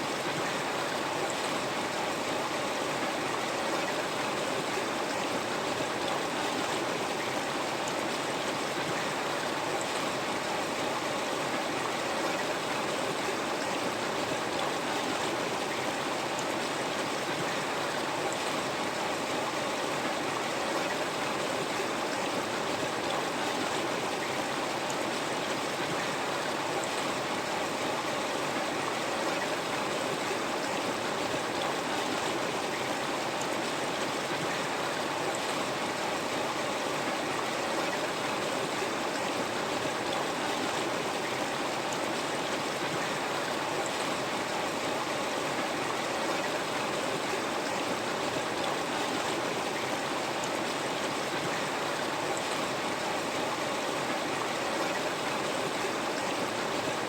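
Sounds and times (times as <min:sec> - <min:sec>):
river water flowing over rocks: 0:00.0 - 0:57.0.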